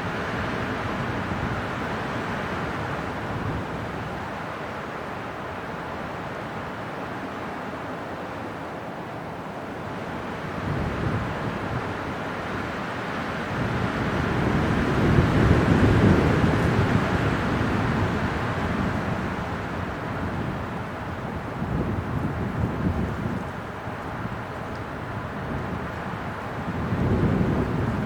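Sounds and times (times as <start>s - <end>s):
gusting wind: 0.0s - 28.0s.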